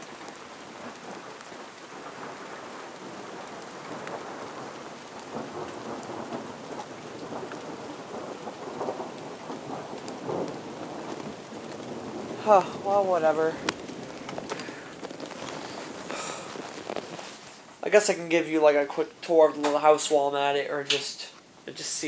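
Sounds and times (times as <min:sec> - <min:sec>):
raindrops ticking on surfaces: 0:00.0 - 0:22.0
steady rain falling: 0:00.0 - 0:22.0.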